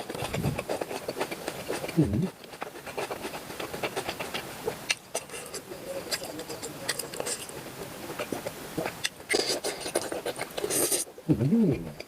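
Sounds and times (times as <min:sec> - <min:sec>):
wet chewing mouth clicks: 0:00.0 - 0:12.0.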